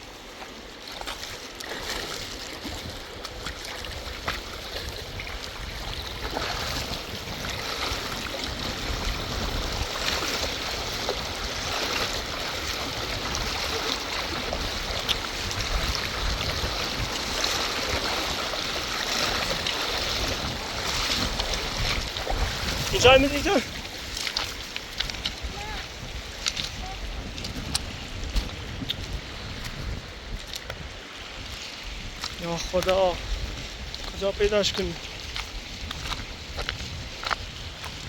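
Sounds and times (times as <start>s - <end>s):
rushing river water: 0.0s - 38.0s.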